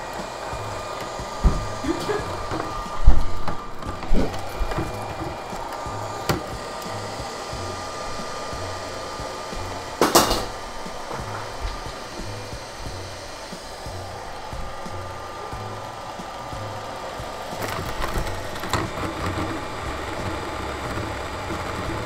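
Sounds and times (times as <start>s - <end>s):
robot vacuum knocking: 0.0s - 22.0s
robot vacuum whirring hum: 0.0s - 22.0s.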